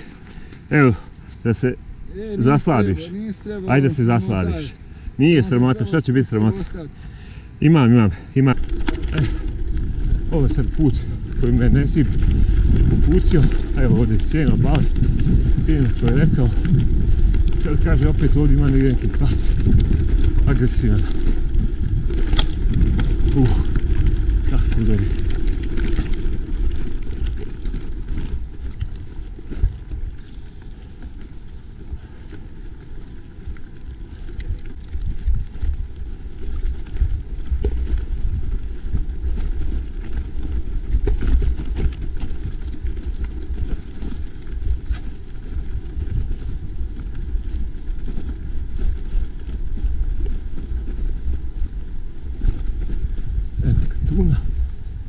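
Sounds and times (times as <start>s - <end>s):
wind rumble on microphone: 0.0s - 55.0s
bike knocks and rattles: 8.4s - 54.2s.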